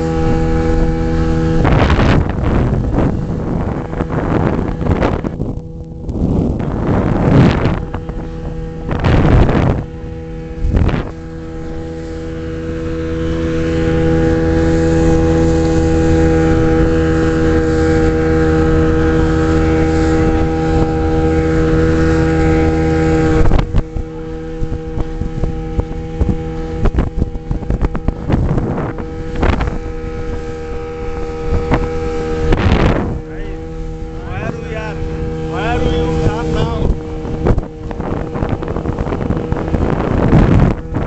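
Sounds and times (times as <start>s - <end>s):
rushing wind: 0.0s - 41.0s
speedboat engine running: 0.0s - 41.0s
water noise: 0.0s - 41.0s.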